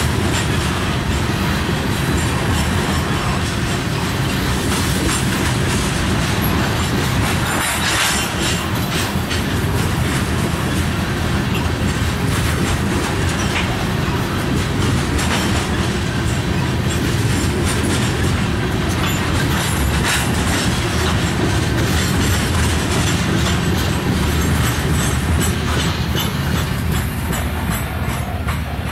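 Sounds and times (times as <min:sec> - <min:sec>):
train wheels rumbling: 0:00.0 - 0:28.9
wheels clacking on rail joints: 0:00.0 - 0:28.9.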